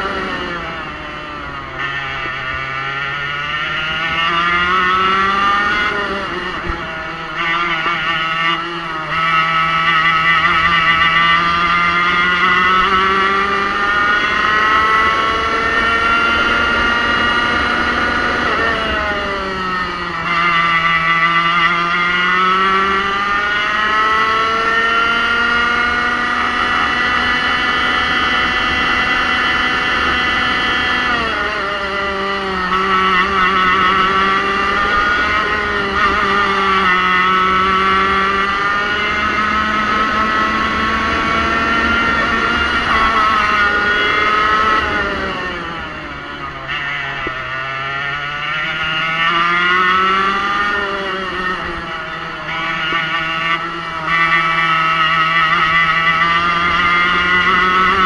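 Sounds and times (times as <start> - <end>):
racing kart engine revving: 0.0 - 58.0.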